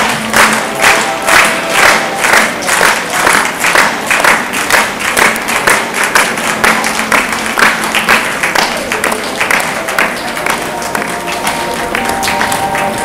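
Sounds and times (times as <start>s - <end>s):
audience clapping in rhythm: 0.0s - 13.0s
faint music: 0.0s - 13.0s.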